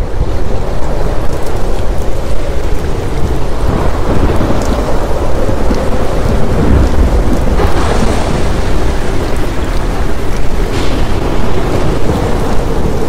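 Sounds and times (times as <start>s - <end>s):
heavy rain pouring: 0.0s - 13.0s
low rumble of thunder: 0.0s - 13.0s.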